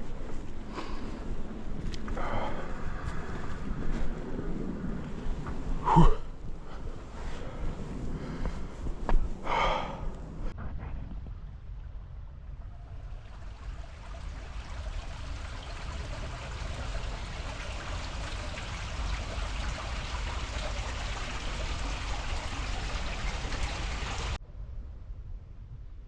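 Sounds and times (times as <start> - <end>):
bike tyres rolling on dirt: 0.0 - 24.4
wind rumble on microphone: 0.0 - 26.0.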